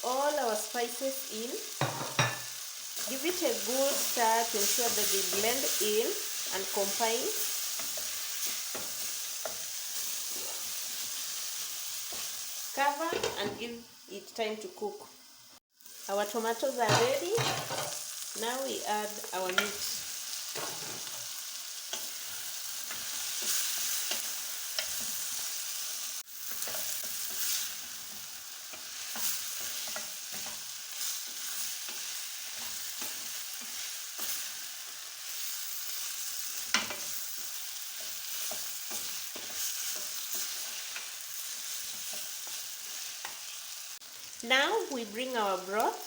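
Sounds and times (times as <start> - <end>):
meat sizzling in hot oil: 0.0 - 46.0.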